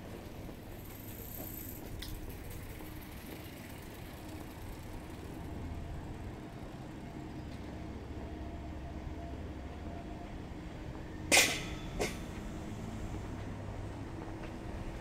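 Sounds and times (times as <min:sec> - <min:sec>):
street background: 0:00.0 - 0:15.0.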